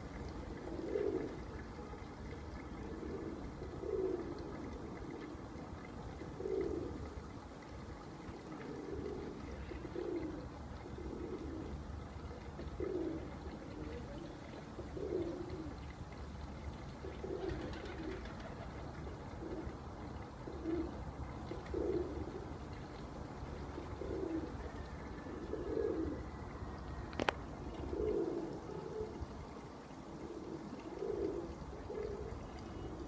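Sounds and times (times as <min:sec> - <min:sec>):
pigeons cooing: 0:00.0 - 0:01.6, 0:02.5 - 0:07.2, 0:08.3 - 0:15.9, 0:17.0 - 0:22.7, 0:23.6 - 0:26.4, 0:27.2 - 0:29.4, 0:30.1 - 0:33.0.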